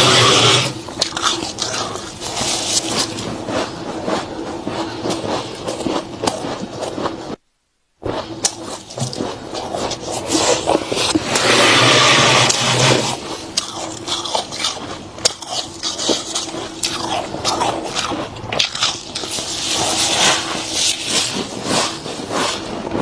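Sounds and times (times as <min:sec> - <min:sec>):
freezer frost crunching and scraping: 0:00.0 - 0:07.4, 0:08.0 - 0:23.0.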